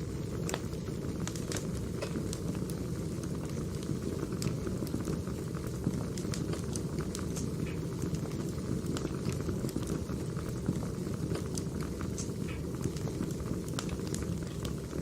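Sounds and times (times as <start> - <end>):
fire crackling: 0.0 - 15.0
flames rumbling: 0.0 - 15.0.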